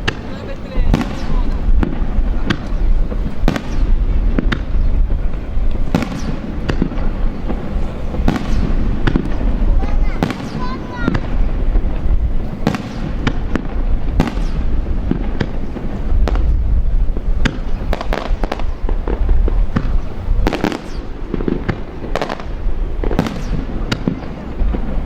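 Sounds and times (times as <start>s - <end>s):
firework shells bursting: 0.0s - 25.0s.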